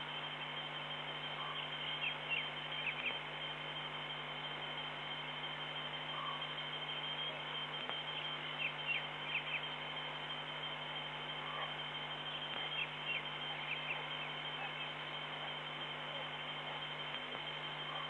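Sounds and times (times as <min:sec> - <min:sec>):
continuous high whine: 0:00.0 - 0:18.0
steady electrical hum: 0:00.0 - 0:18.0.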